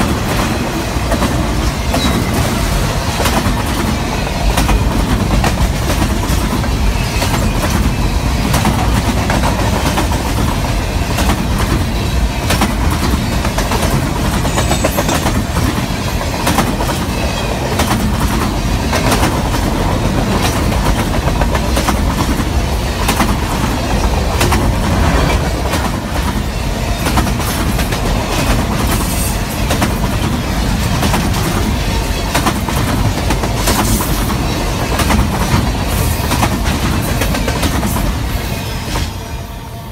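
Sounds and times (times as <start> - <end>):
wheels clacking over rail joints: 0.0 - 38.1
train wheels rumbling on rail: 0.0 - 39.9.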